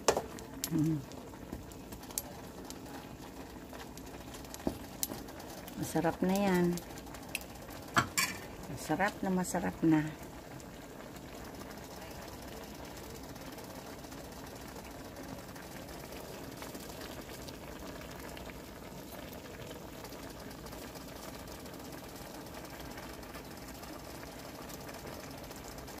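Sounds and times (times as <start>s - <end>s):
liquid bubbling and crackling in wok: 0.0s - 26.0s.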